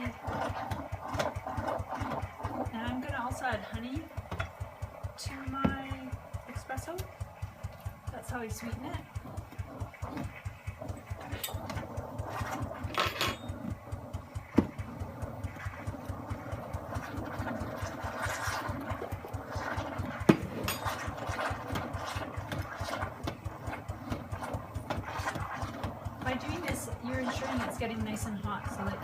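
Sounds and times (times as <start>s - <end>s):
espresso machine steaming milk: 0.0s - 29.0s.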